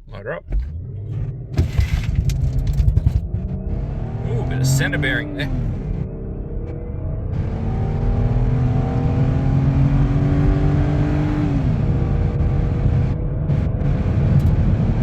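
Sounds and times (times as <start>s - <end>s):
car engine accelerating hard: 0.1s - 15.0s.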